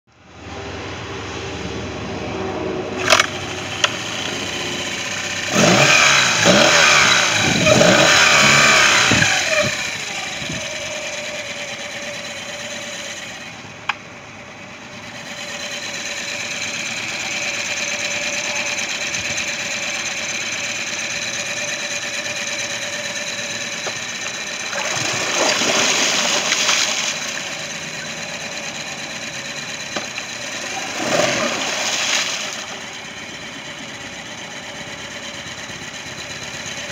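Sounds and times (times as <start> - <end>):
outboard engine revving: 0.3 - 13.8, 14.6 - 36.9.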